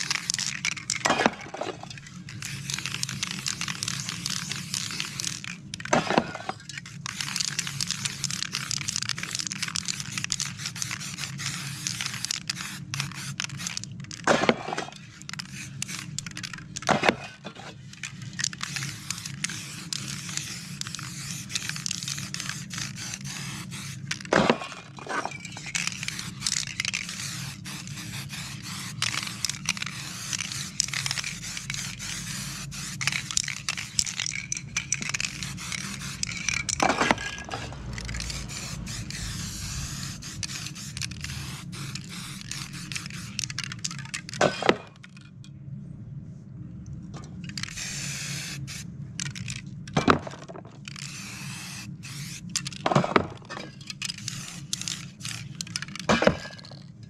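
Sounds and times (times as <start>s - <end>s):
spray paint can hissing: 0.0s - 44.4s, 47.5s - 49.6s, 50.9s - 56.8s.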